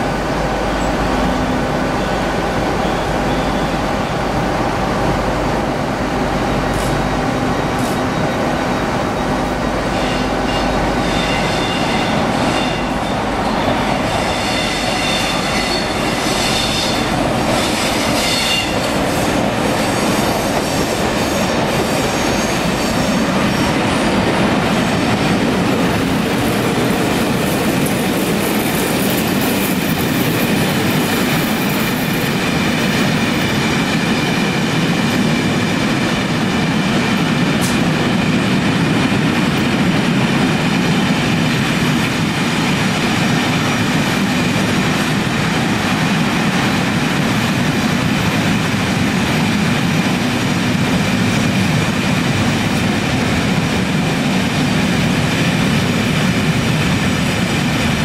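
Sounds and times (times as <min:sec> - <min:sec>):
diesel locomotive running: 0:00.0 - 0:58.0.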